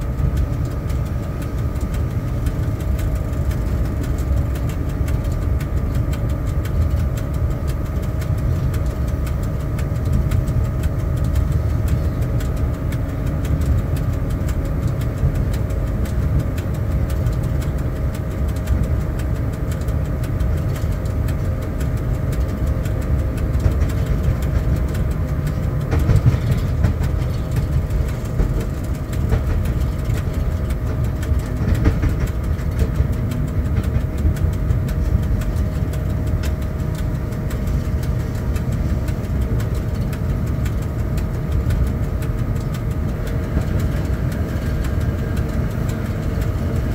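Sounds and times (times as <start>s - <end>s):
constant hum: 0.0s - 46.9s
locomotive running gear rumble: 0.0s - 46.9s.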